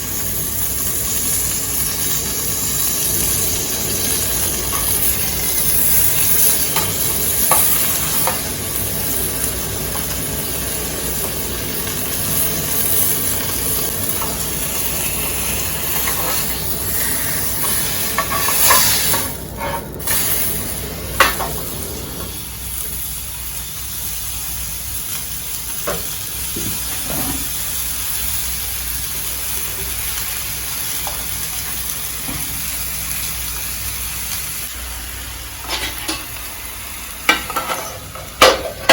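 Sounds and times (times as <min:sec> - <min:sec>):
steak sizzling in a tin: 0:00.0 - 0:38.9.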